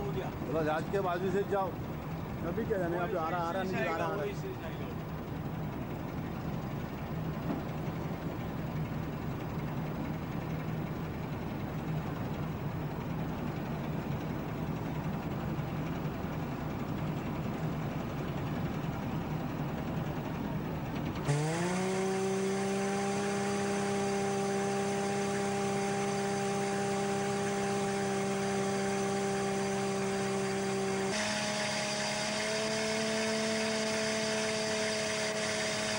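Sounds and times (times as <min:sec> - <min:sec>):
boat engine running: 0:00.0 - 0:35.9.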